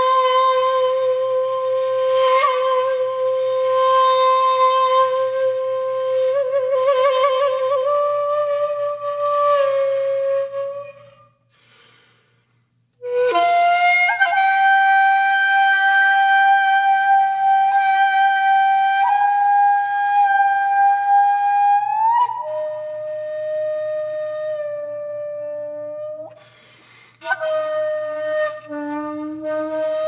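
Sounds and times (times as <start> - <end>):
solo flute: 0.0 - 11.5, 13.0 - 26.6, 27.2 - 30.0.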